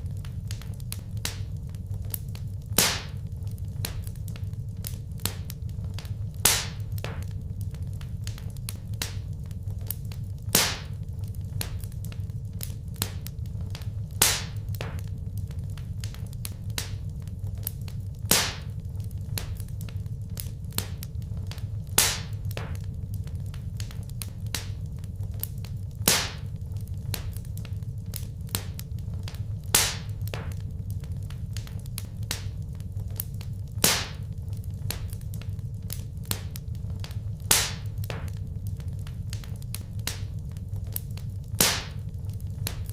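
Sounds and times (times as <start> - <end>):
loud fire pops: 0.0 - 42.9
wood fire crackling: 0.0 - 42.9.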